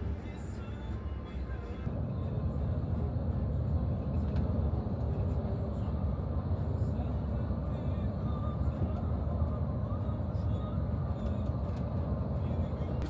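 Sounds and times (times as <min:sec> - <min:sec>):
vehicle rumble from inside: 0:00.0 - 0:13.0.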